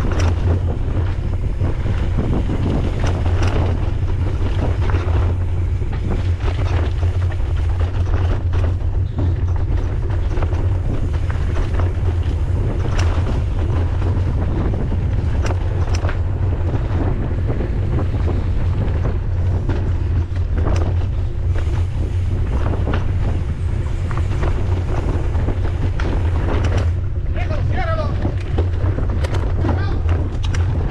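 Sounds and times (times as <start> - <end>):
bike clicks and knocks: 0.0 - 30.9
wind buffeting microphone: 0.0 - 30.9.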